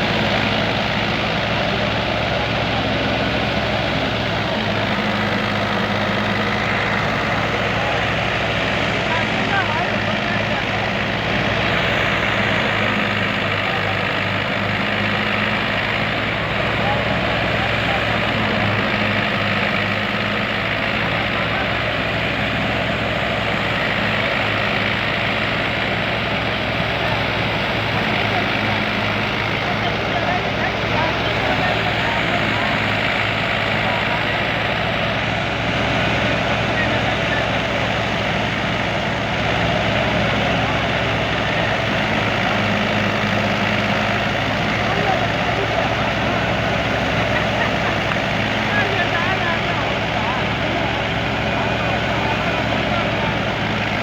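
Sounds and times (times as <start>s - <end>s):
dense threshing machine noise: 0.0s - 54.0s
thresher engine hum: 0.0s - 54.0s.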